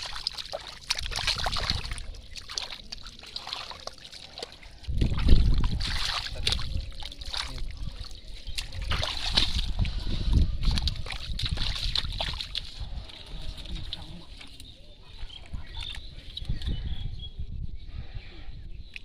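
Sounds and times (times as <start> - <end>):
water splashing and sloshing: 0.0 - 16.4.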